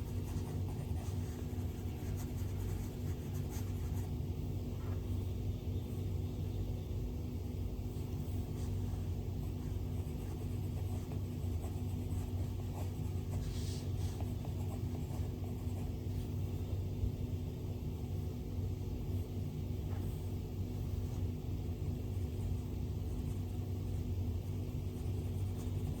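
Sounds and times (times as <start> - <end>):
low hum and rumble: 0.0 - 26.0.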